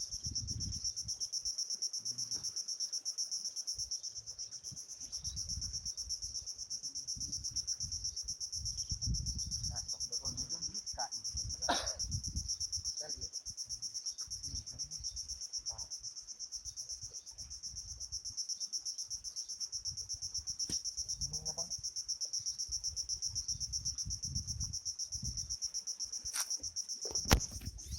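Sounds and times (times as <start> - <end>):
insects chirping in pulsing trill: 0.0 - 27.9.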